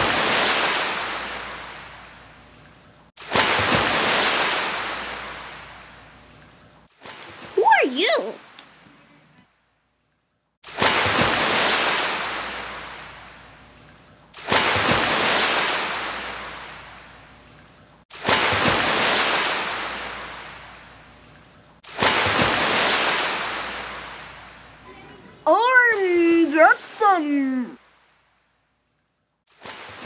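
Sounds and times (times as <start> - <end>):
ocean waves breaking on shore: 0.0 - 2.6, 3.2 - 8.8, 10.6 - 28.4, 29.5 - 30.0.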